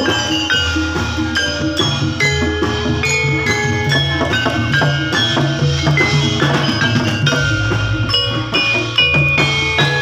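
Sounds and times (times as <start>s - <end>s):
drum: 0.0s - 10.0s
metal keyed instruments struck: 1.4s - 10.0s.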